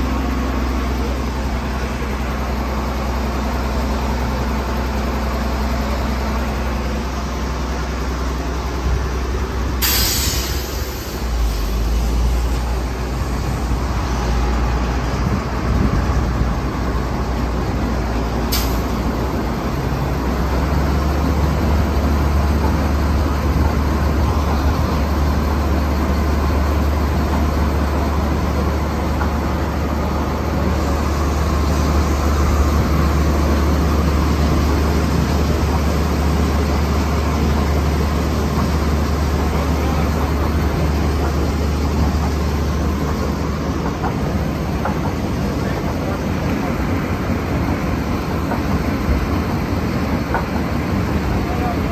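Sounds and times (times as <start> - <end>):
drilling rig engine droning: 0.0 - 51.9.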